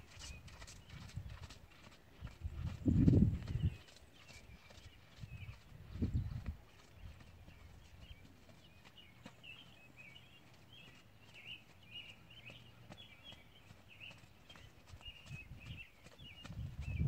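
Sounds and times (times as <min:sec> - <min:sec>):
horse hooves on sand: 0:00.0 - 0:17.0
songbird twittering: 0:02.9 - 0:17.0.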